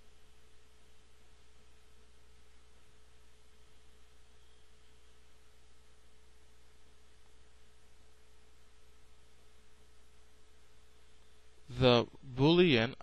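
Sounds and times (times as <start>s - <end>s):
background hum and hiss: 0.0s - 13.0s
thin steady tone: 0.0s - 13.0s.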